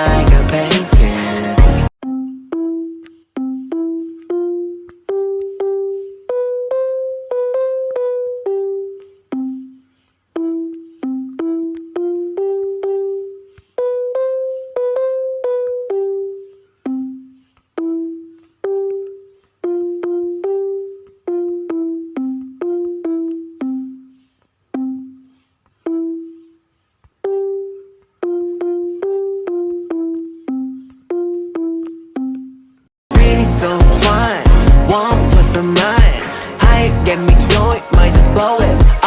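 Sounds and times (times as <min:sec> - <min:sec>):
simple plucked melody: 0:02.0 - 0:09.8, 0:10.4 - 0:24.1, 0:27.2 - 0:39.0.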